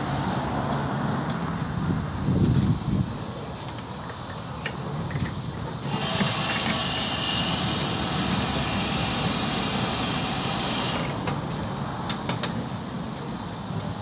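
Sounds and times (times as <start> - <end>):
loud hiss of steam: 0.0 - 14.0
low rumble of moving train: 0.0 - 14.0.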